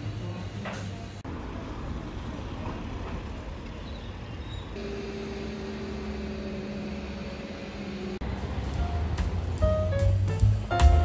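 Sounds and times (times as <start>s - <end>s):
traffic rumble: 1.2s - 10.8s
engine hum: 1.2s - 11.0s.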